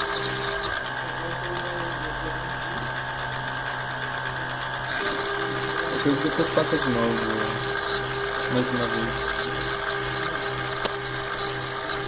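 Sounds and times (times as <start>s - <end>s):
high cutting tone: 0.0s - 12.0s
machine motor hum: 0.0s - 12.0s.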